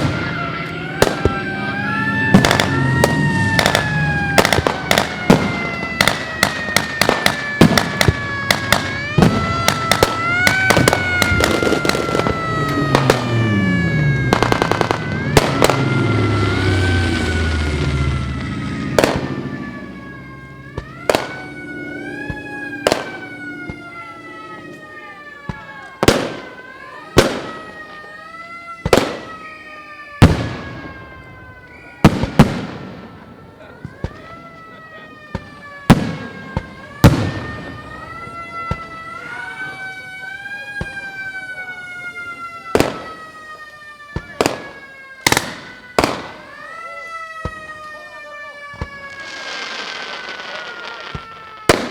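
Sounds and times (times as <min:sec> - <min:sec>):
loud sharp bangs: 0:00.0 - 0:28.2, 0:28.8 - 0:34.4, 0:35.2 - 0:39.7, 0:41.7 - 0:51.9
air-raid siren wailing: 0:00.0 - 0:51.9.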